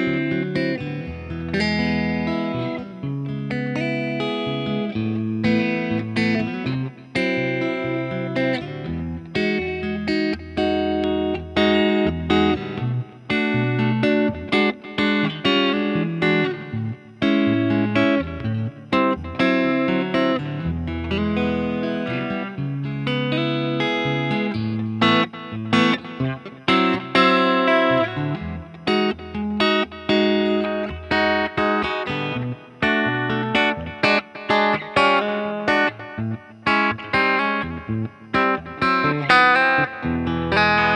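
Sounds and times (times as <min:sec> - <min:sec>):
clean electric guitar: 0:00.0 - 0:40.9.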